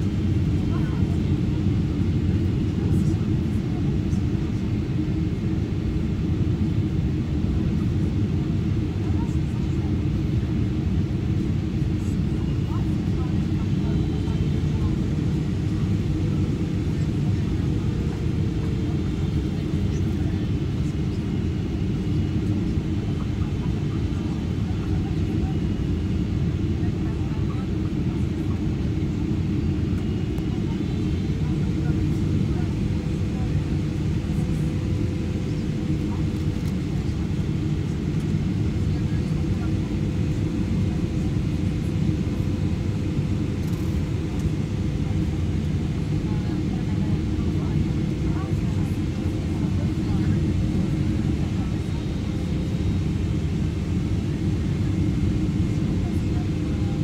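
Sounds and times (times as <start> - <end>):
jet engine low rumble: 0.0 - 57.0.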